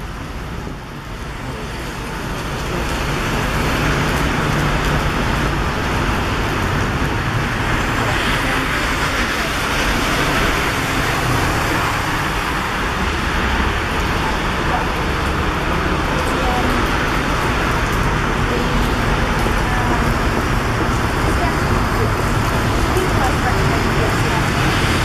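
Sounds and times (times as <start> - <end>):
heavy rain on street: 0.0 - 25.0
road traffic: 0.0 - 25.0.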